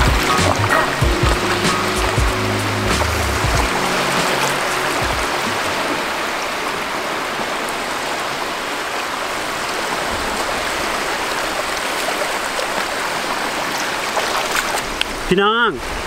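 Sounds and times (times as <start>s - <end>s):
sea water washing over pebbles: 0.0s - 16.0s.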